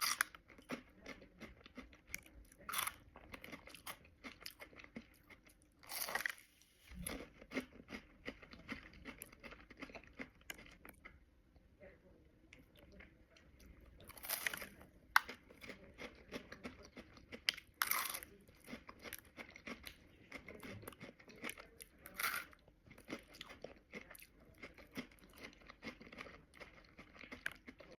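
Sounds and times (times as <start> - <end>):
chewing crunchy wafer: 0.0 - 11.2, 12.7 - 28.0.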